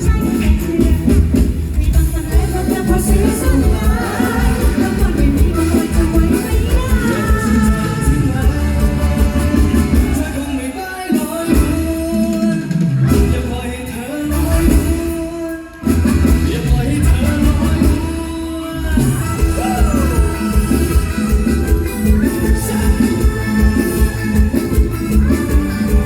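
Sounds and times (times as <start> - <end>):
live band music with heavy bass: 0.0 - 26.0
person singing: 0.0 - 26.0.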